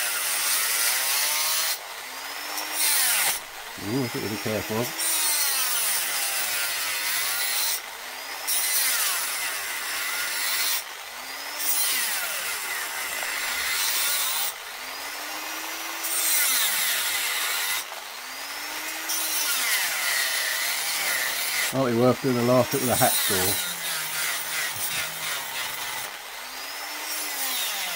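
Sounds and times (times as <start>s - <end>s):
power tool cutting metal: 0.0s - 27.9s.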